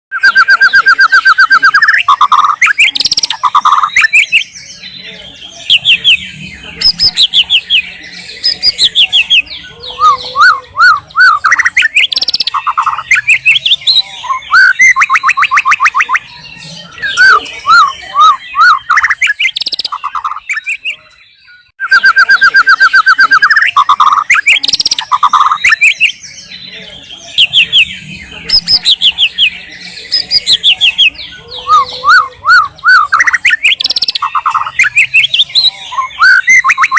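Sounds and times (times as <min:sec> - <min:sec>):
bird singing whistled song: 0:00.1 - 0:36.9.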